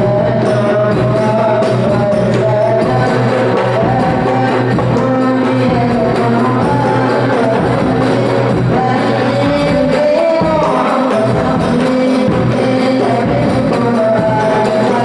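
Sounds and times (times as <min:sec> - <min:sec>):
instrumental accompaniment: 0:00.0 - 0:15.0
students singing religious song: 0:00.0 - 0:15.0.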